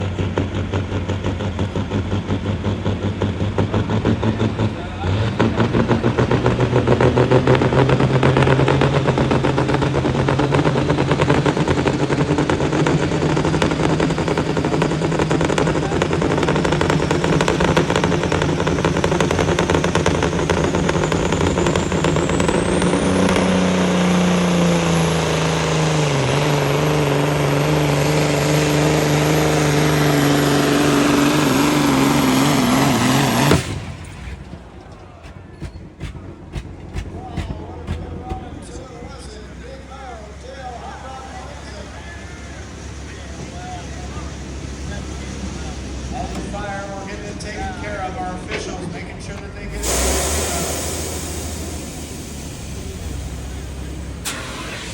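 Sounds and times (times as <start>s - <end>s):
engine running under load: 0.0s - 54.9s
high turbo whine: 0.0s - 54.9s.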